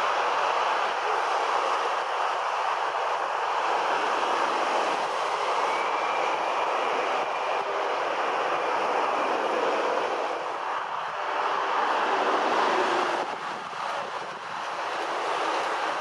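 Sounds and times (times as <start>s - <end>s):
distant jet engines roaring: 0.0s - 16.0s.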